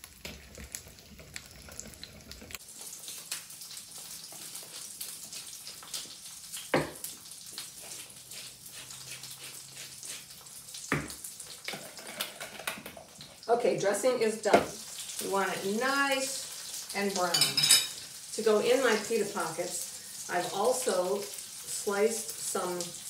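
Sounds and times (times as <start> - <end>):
chicken frying in oil: 0.0 - 23.0.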